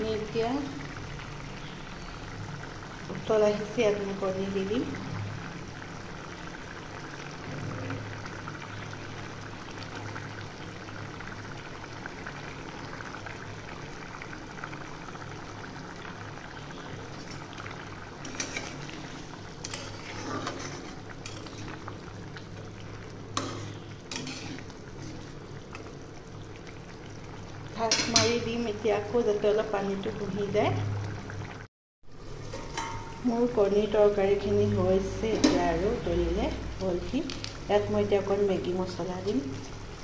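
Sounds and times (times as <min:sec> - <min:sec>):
gravy boiling in metal pan: 0:00.0 - 0:40.0.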